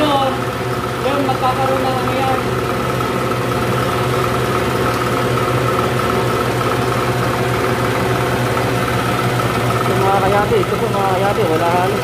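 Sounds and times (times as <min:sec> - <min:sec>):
test bench machine humming: 0:00.0 - 0:12.0.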